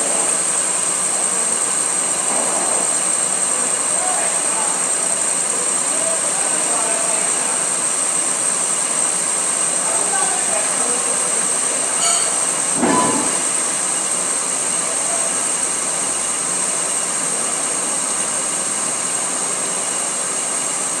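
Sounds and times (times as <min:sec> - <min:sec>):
metal lathe cutting with whine: 0:00.0 - 0:21.0.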